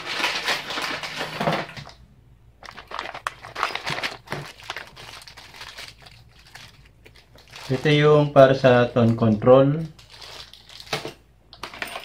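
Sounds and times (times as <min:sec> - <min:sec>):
plastic bag crinkling: 0:00.0 - 0:02.0, 0:02.6 - 0:11.2.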